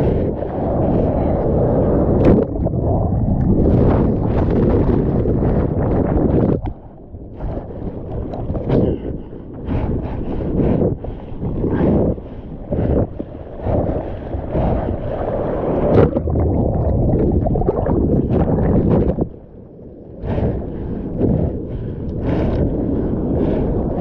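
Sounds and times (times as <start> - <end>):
sea water splashing: 0.0 - 24.0
wind buffeting microphone: 0.0 - 24.0.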